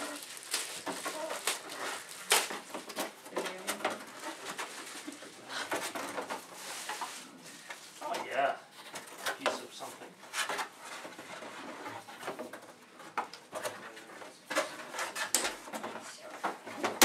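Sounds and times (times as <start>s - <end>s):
rustling cardboard and plastic packaging: 0.0s - 17.0s.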